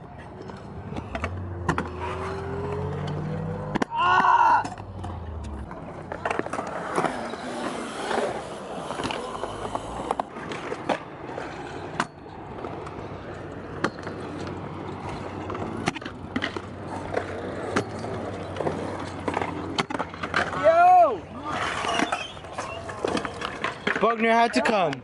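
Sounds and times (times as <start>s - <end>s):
scooter wheels rumbling on concrete: 0.0s - 25.0s.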